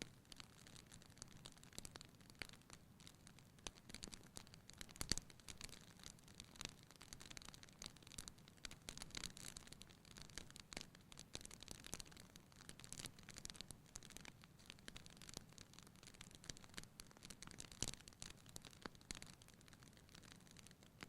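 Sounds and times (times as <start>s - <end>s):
faint steady hiss: 0.0s - 21.0s
wood fire crackling and popping: 0.0s - 21.0s.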